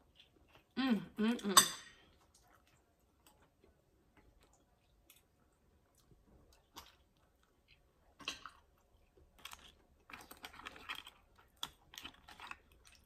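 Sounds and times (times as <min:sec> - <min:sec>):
chewing: 0:00.0 - 0:00.8, 0:02.0 - 0:13.0.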